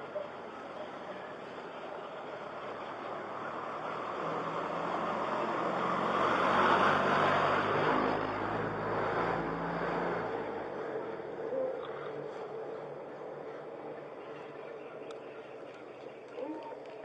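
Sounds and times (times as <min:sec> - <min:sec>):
vehicle passing by: 0:00.8 - 0:15.8.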